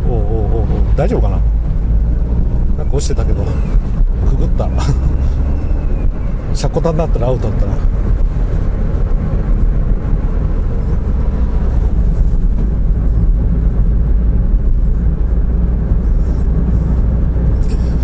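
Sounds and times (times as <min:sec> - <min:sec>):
car engine low rumble: 0:00.0 - 0:18.0.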